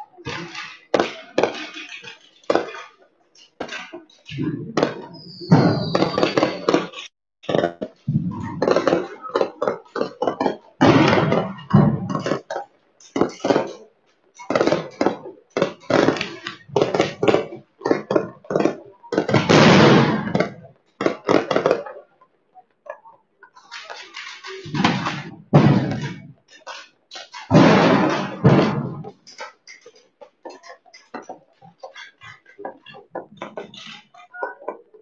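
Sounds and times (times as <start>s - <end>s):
fireworks bangs and crackles: 0.2s - 22.0s, 23.6s - 34.6s.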